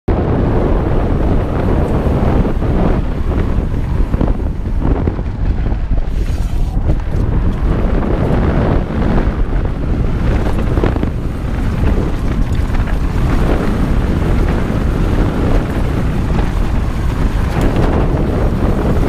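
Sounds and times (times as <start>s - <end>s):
heavy wind buffeting microphone: 0.1s - 19.0s
bike clattering over dirt: 0.4s - 19.0s.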